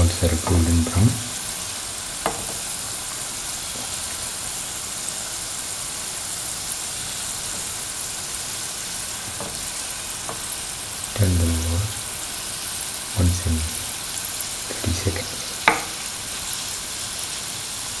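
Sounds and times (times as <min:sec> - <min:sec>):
dough frying in oil: 0:00.0 - 0:18.0.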